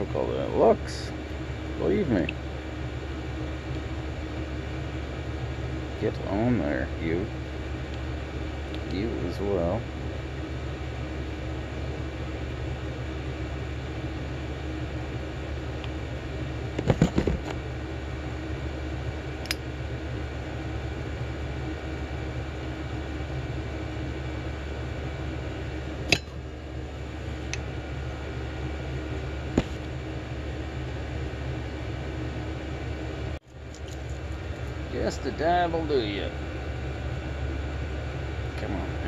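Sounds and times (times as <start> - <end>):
heater fan humming: 0.0 - 39.0.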